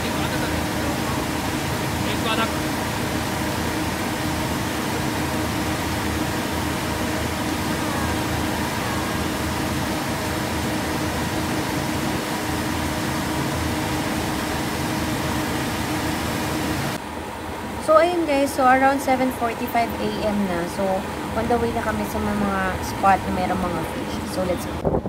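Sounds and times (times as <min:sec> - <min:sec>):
boat engine humming: 0:00.0 - 0:25.0
water rushing along hull: 0:00.0 - 0:25.0.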